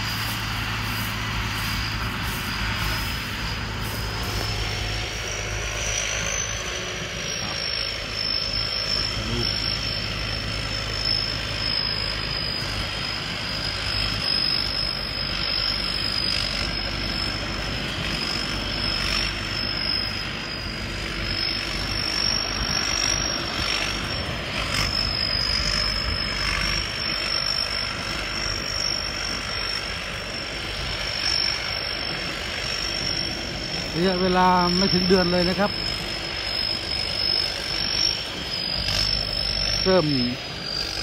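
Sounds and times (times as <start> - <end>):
harvester engine running: 0.0 - 41.0.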